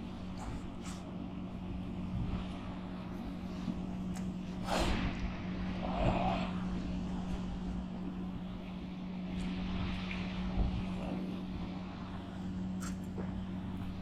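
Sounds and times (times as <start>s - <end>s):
low engine-like drone: 0.0s - 14.0s.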